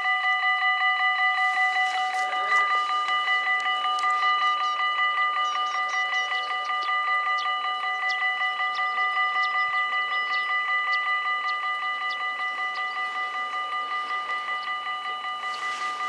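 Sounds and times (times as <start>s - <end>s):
level crossing warning bells: 0.0s - 16.0s.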